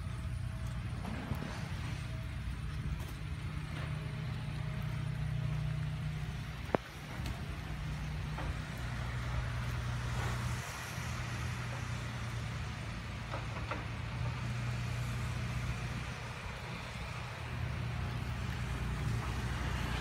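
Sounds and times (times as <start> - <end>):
diesel excavator engine running: 0.0 - 20.0.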